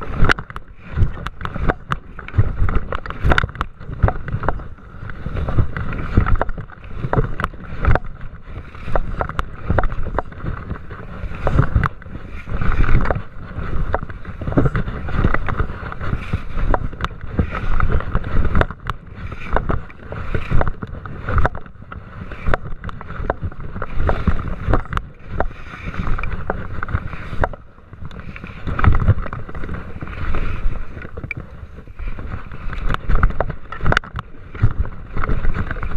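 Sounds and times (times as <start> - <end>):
skis scraping over snow: 0.0 - 35.9
wind rumbling on microphone: 0.0 - 35.9.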